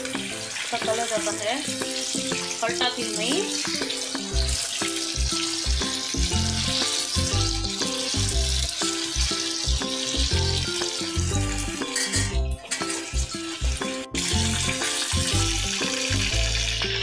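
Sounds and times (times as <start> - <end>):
background music with beat: 0.0 - 17.0
chicken deep-frying in oil: 0.0 - 17.0.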